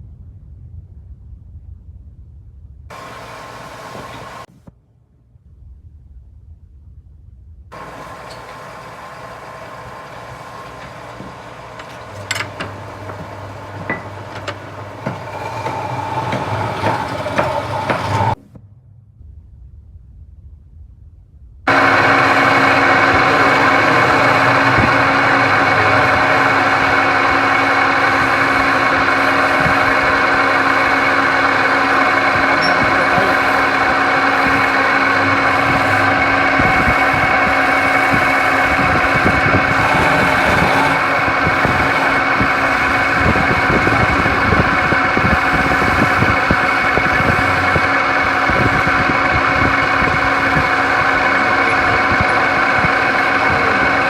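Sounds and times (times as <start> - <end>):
lathe motor humming: 2.9 - 4.5, 7.8 - 18.4, 21.7 - 54.0.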